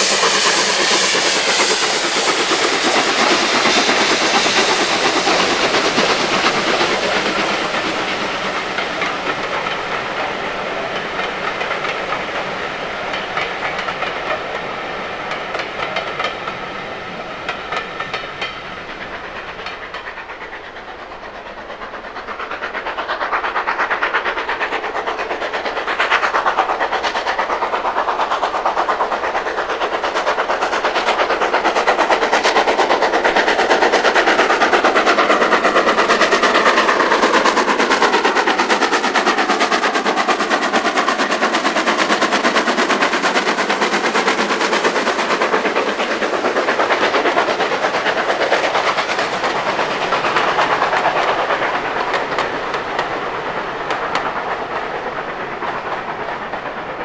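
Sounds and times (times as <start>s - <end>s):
hiss of steam: 0.0s - 57.0s
steam train clatter: 0.0s - 57.0s.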